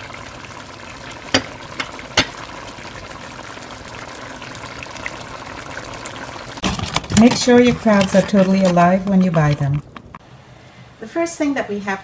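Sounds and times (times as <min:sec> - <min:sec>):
curry bubbling in a pot: 0:00.0 - 0:10.2.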